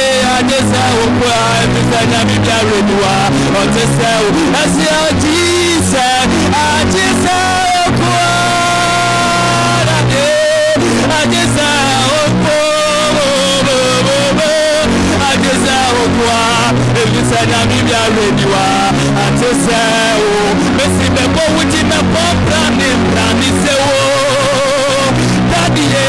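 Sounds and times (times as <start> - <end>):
instrumental accompaniment: 0.0 - 26.0
man singing into microphone: 0.0 - 26.0.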